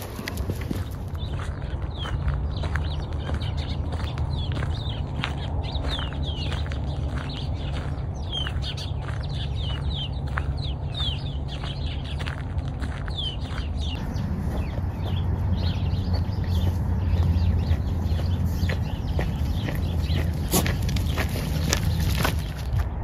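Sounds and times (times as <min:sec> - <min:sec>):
low steady rumble: 0:00.0 - 0:23.0
songbirds chirping: 0:00.0 - 0:23.0.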